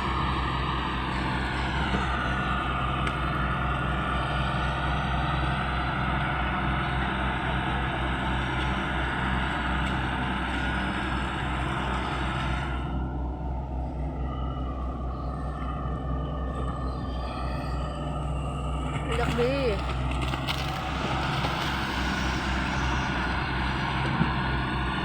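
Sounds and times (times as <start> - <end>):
diesel engine under load: 0.0 - 25.0.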